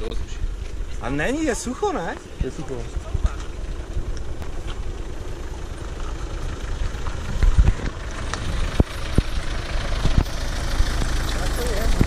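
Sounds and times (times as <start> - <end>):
truck engine at low revs: 0.0 - 12.0.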